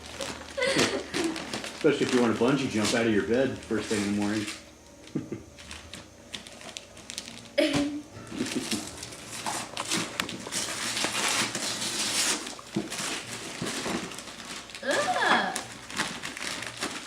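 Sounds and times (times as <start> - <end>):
wrapping paper crinkling and tearing: 0.0 - 4.6, 5.6 - 17.0.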